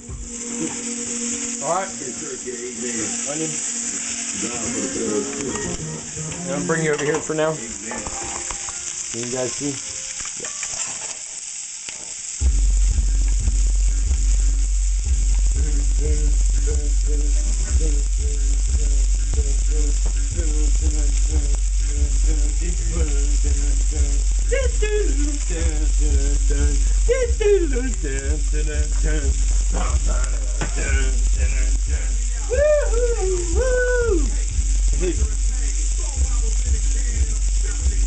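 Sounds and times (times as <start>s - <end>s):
low hum: 0.0s - 6.6s, 12.4s - 38.0s
chicken sizzling in oil: 0.0s - 38.0s.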